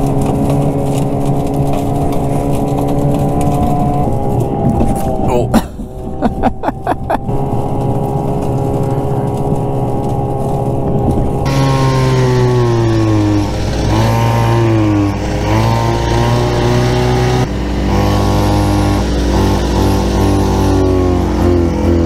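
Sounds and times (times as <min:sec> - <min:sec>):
snowmobile engines running: 0:00.0 - 0:22.0.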